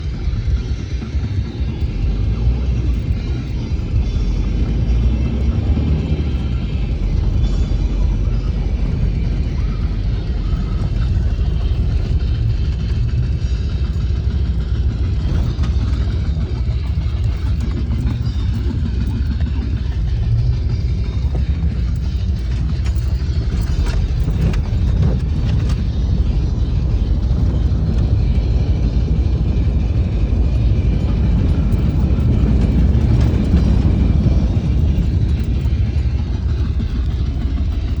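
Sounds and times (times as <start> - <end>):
engine rumbling: 0.0 - 38.0.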